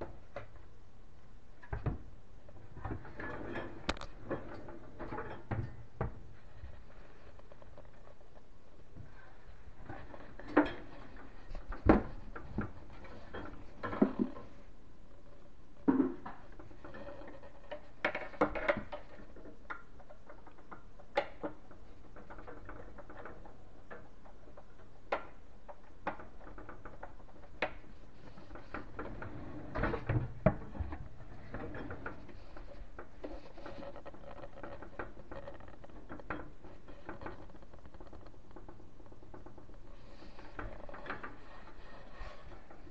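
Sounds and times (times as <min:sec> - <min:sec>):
hands working on cabinet hardware: 0:01.6 - 0:42.9.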